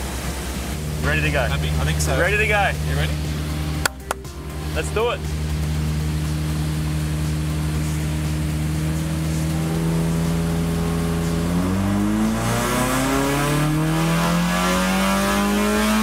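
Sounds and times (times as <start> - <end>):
car engine revving at full throttle: 0.0 - 16.0.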